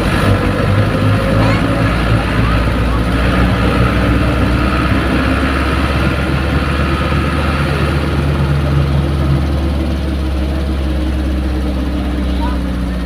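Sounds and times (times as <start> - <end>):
bus engine drone: 0.0 - 13.0
road noise hiss: 0.0 - 13.0.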